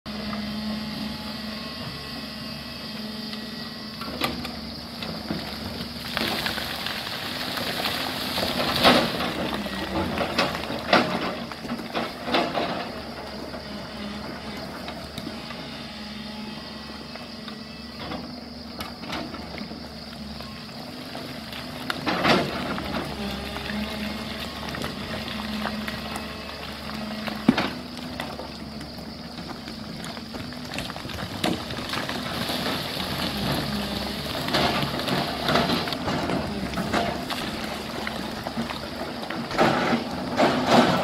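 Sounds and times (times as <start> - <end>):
excavator diesel engine running: 0.1 - 41.0.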